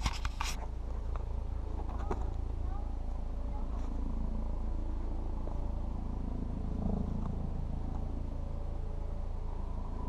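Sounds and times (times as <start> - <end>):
low rumble from camera microphone: 0.0 - 10.0.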